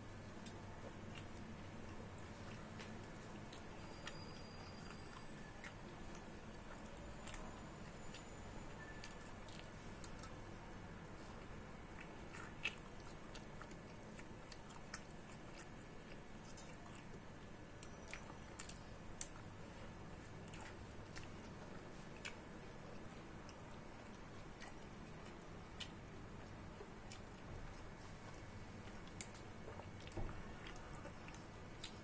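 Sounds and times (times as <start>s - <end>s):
person chewing: 0.4s - 10.4s, 11.0s - 32.0s.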